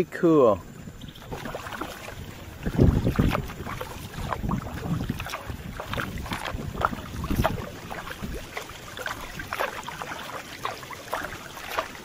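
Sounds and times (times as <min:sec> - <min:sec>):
paddle blades dipping into water: 0:01.1 - 0:12.0
water splashes and drips: 0:01.1 - 0:12.0.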